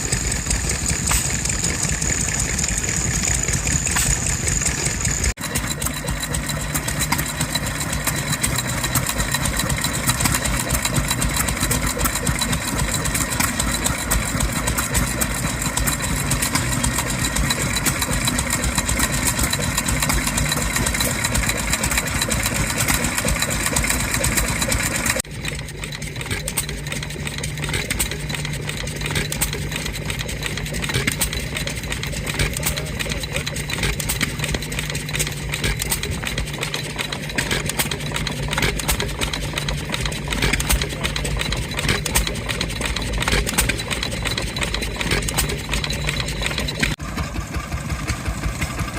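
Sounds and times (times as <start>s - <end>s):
engines running: 0.0s - 48.9s.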